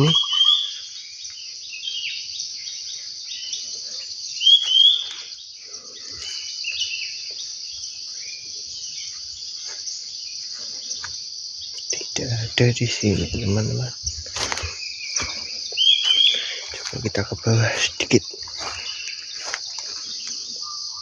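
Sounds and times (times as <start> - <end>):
birds chirping and whistling: 0.0 - 21.0
insect chorus: 0.0 - 21.0.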